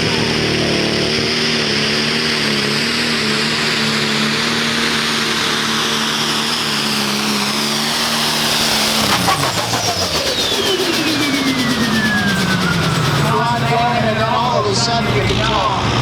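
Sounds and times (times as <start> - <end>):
exhaust and turbo hiss: 0.0 - 15.9
diesel tractor engine running: 0.0 - 16.0.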